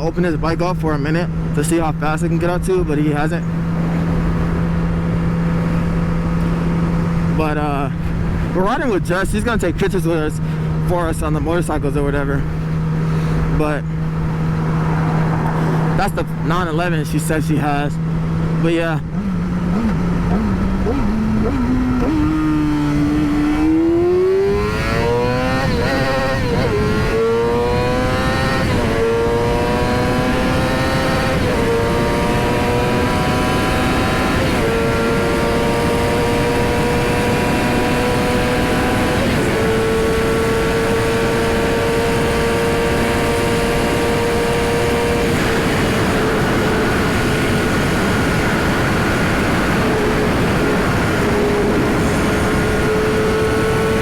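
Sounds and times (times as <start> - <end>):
motorcycle engine accelerating: 0.0 - 54.0
wind rush: 3.5 - 9.6, 10.4 - 18.7, 19.4 - 54.0.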